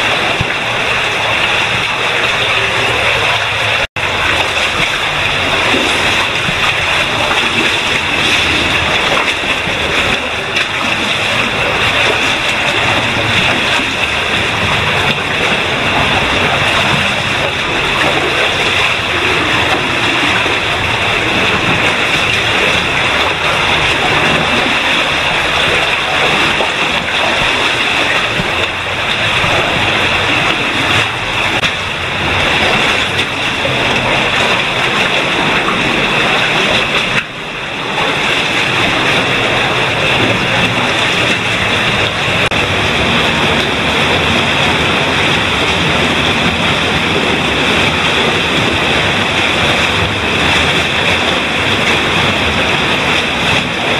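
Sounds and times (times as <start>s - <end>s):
stream rushing through cave: 0.0s - 53.9s.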